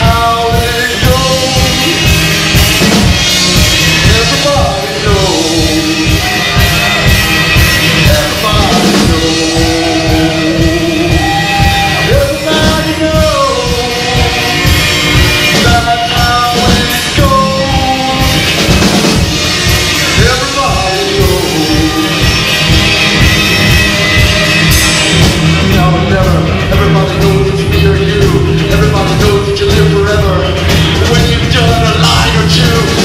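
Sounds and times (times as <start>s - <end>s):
person singing: 0.0s - 2.3s, 3.8s - 22.7s, 25.2s - 33.0s
drums beating: 0.0s - 33.0s
rock band playing live: 0.0s - 33.0s.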